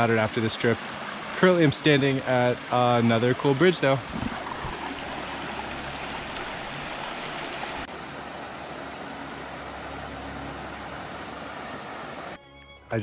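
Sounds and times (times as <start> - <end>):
stream water rushing: 0.0 - 12.4.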